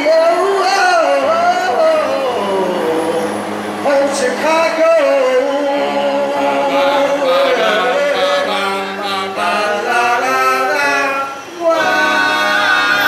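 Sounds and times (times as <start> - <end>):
men singing in harmony: 0.0 - 13.0.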